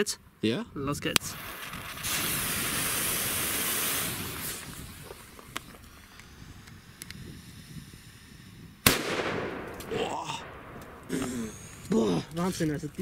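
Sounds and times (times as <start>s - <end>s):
faint wind noise: 0.0s - 13.0s
firecracker fuse fizzing: 1.1s - 13.0s.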